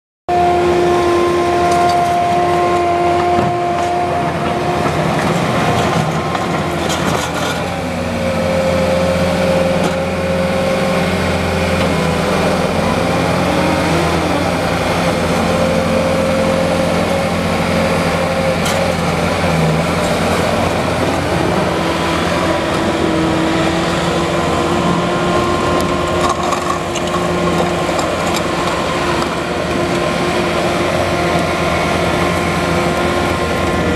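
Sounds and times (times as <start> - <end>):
skid steer loader diesel engine: 0.3 - 33.9.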